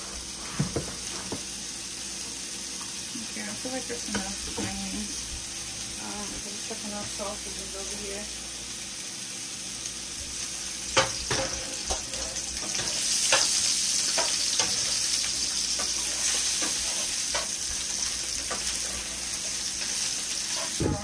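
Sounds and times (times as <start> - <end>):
sausages sizzling in a pan: 0.0 - 21.0.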